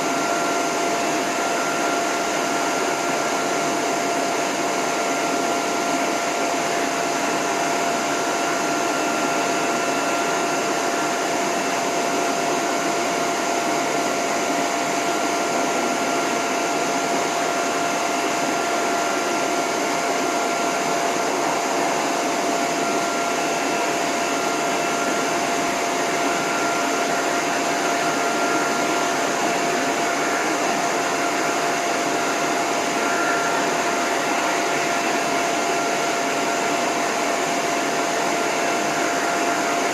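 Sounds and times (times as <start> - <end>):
hose dryer blowing air: 0.0 - 39.9
steady whine: 0.0 - 39.9.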